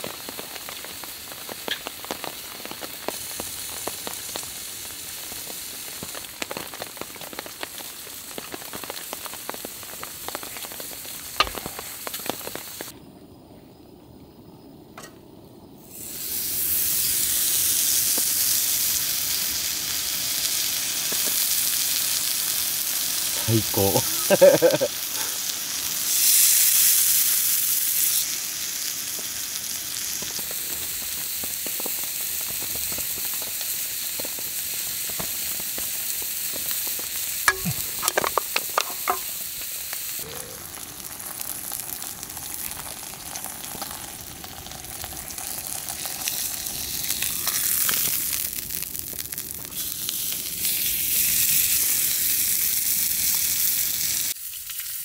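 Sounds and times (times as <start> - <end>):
meat sizzling: 0.0 - 12.9, 15.8 - 55.0.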